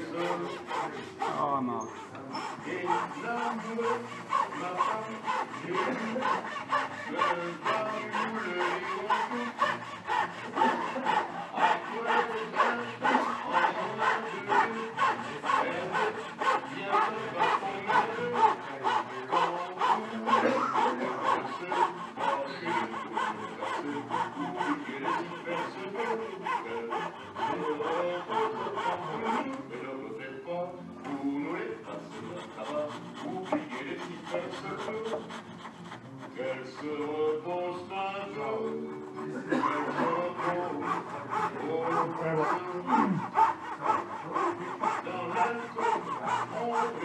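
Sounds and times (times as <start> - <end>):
fret saw rasping through wood: 0.0 - 47.0.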